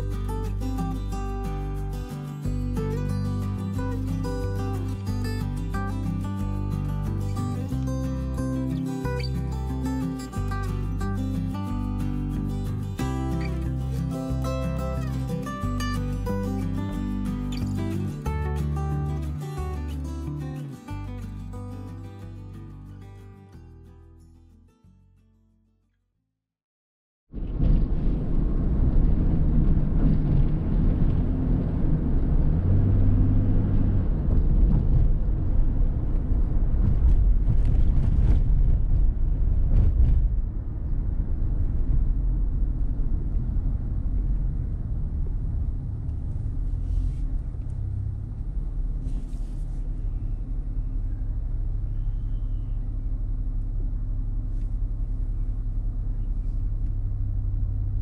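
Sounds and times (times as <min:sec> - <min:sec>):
car engine and road rumble: 0:00.0 - 0:24.3, 0:27.7 - 0:58.0.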